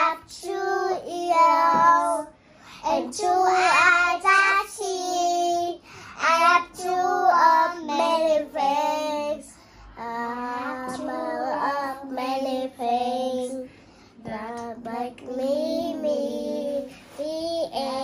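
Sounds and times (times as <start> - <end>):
girls singing: 0.0 - 18.0.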